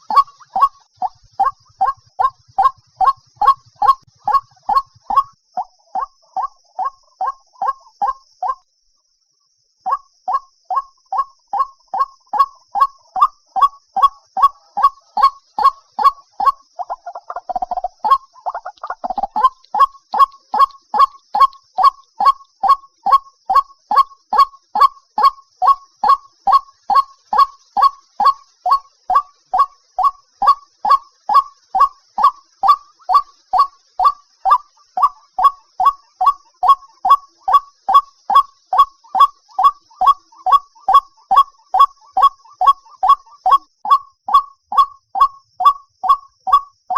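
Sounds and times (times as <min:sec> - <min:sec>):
bird calling repeated notes: 0:00.0 - 0:08.6, 0:09.9 - 0:46.9.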